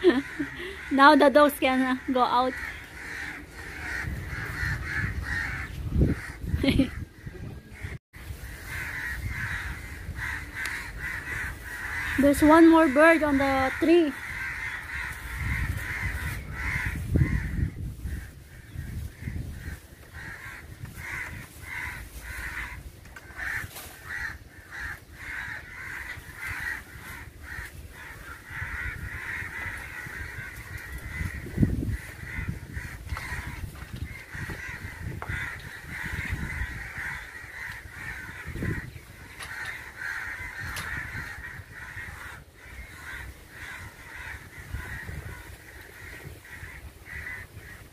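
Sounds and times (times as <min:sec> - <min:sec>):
crows cawing: 0:00.0 - 0:47.9.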